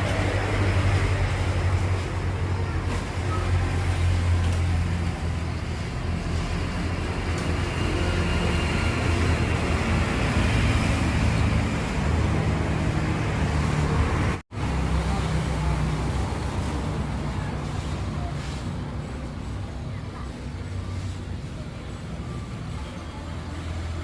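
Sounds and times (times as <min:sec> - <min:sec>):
truck engine hum: 0:00.0 - 0:24.0.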